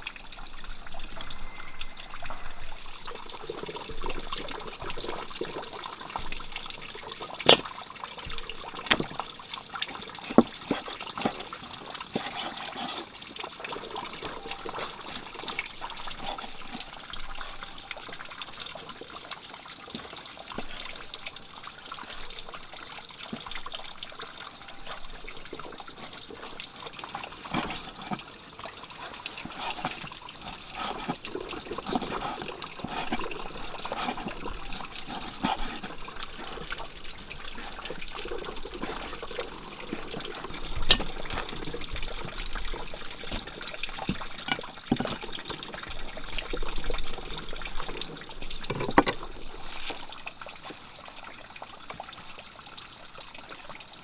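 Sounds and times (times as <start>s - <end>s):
steady trickling: 0.0s - 54.0s.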